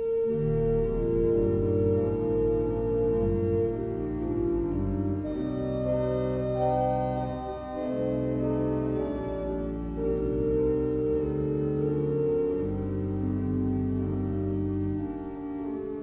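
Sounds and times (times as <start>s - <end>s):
pipe organ sustained chords: 0.0s - 16.0s.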